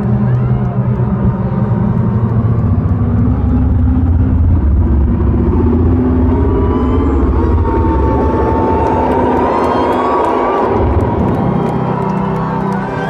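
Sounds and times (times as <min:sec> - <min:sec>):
deep rumbling drone: 0:00.0 - 0:13.0.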